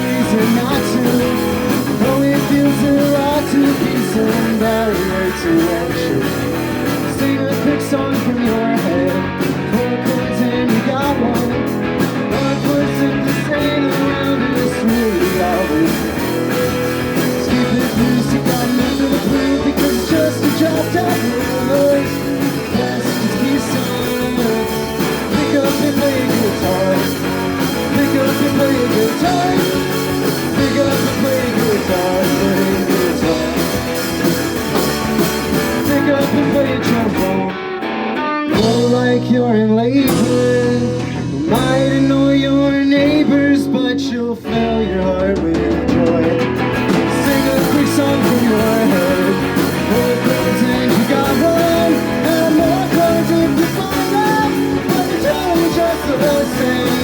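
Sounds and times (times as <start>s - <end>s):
drums and cymbals: 0.0s - 37.6s, 38.5s - 57.0s
live rock band playing: 0.0s - 57.0s.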